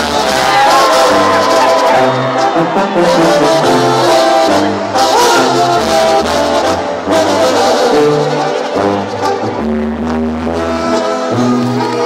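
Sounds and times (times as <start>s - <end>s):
brass band playing held chords: 0.0s - 12.0s.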